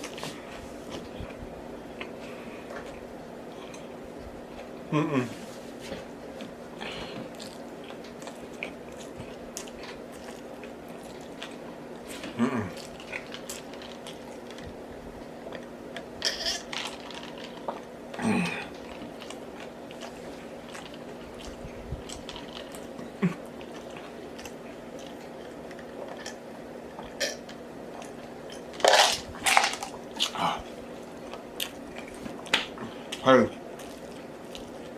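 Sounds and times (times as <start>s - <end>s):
person chewing food: 0.0s - 4.8s, 5.9s - 34.9s
steady low hum: 0.0s - 34.9s.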